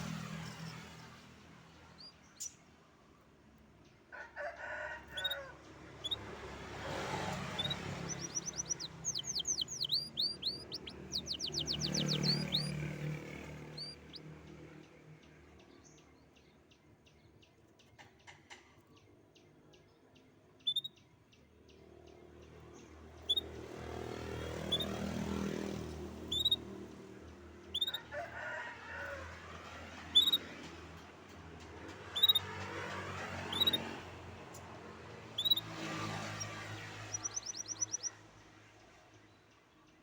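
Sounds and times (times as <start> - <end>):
songbird chirping: 5.1 - 28.2, 29.0 - 31.1, 31.8 - 40.0.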